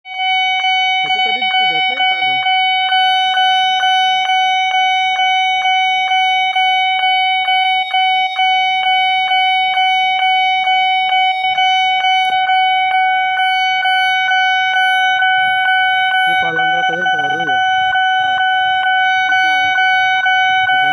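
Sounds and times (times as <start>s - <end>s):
pulsing electronic alarm tone: 0.1s - 20.9s.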